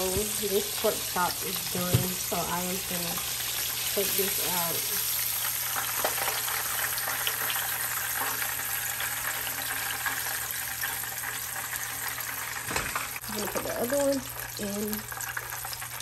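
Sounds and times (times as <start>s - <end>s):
oil sizzling in a frying pan: 0.0s - 16.0s.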